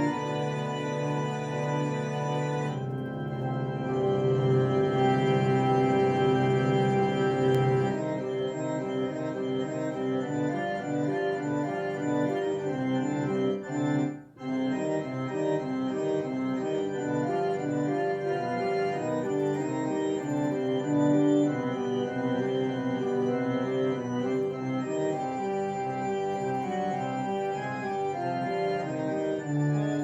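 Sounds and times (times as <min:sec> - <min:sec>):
digital piano organ chords: 0:00.0 - 0:30.0.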